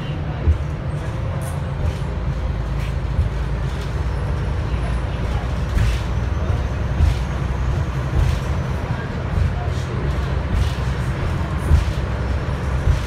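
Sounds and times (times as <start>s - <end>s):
bus body rattles: 0.0s - 13.0s
bus engine and road drone: 0.0s - 13.0s.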